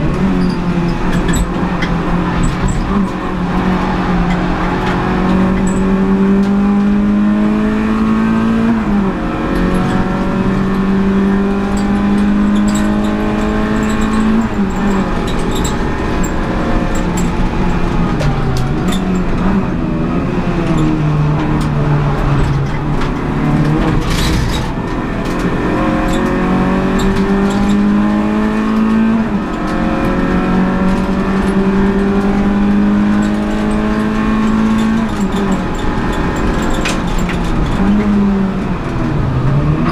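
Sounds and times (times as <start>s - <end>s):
car engine at full throttle: 0.0s - 39.9s
road and tyre noise: 0.0s - 39.9s.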